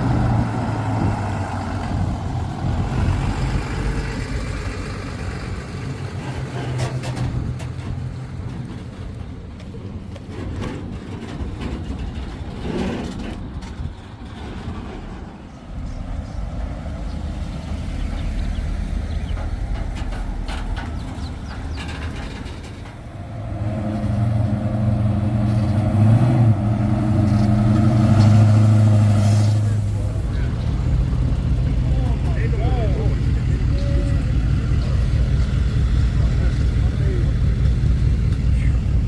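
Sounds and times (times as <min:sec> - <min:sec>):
car engine droning: 0:00.0 - 0:39.0
rumble of other vehicles: 0:00.0 - 0:39.0.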